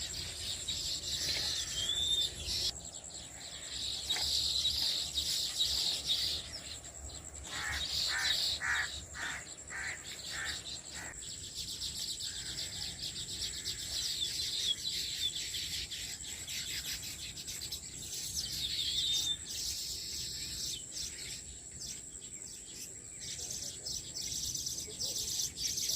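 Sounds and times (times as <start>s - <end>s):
birds chattering with high chirps: 0.0s - 25.9s
insect drone: 0.0s - 25.9s
lower bird calls: 0.0s - 25.9s.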